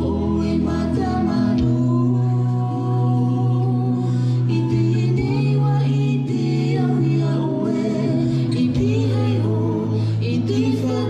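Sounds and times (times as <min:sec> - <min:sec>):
voices singing together: 0:00.0 - 0:11.0.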